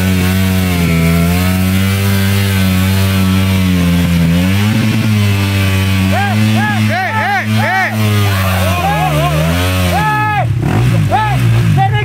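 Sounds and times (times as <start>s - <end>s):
dirt bike engine revving hard: 0.0s - 12.0s.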